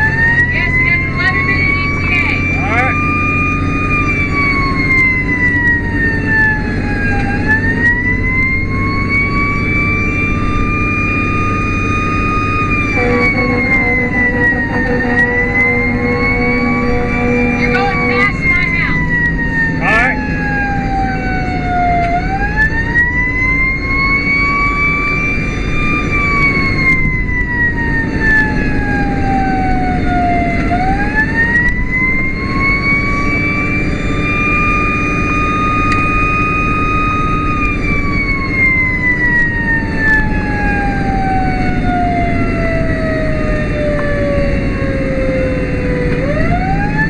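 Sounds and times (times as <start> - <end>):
road and engine noise: 0.0 - 47.0
siren wailing: 0.0 - 47.0.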